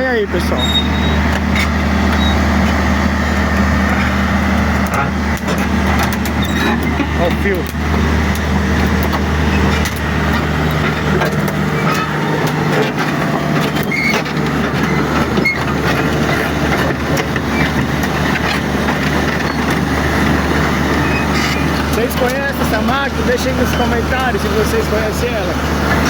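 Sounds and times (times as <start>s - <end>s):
diesel engine running: 0.0s - 26.0s
machine clanks and knocks: 3.9s - 25.4s.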